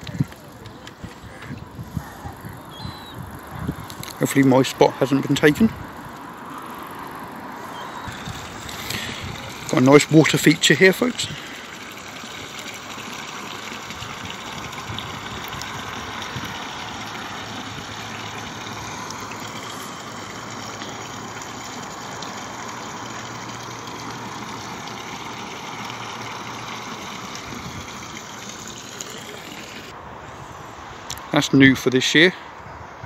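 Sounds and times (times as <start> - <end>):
water pouring into pond: 2.6 - 30.0.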